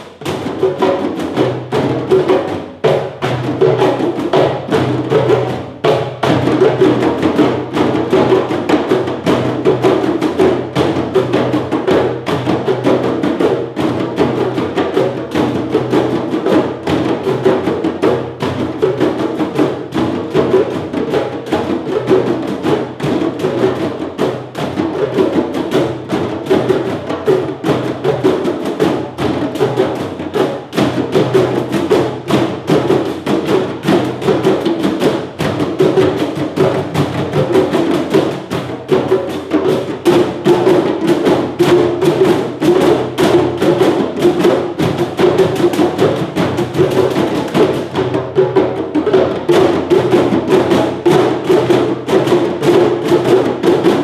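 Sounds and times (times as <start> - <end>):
hand drums playing fast rhythm: 0.0 - 54.0.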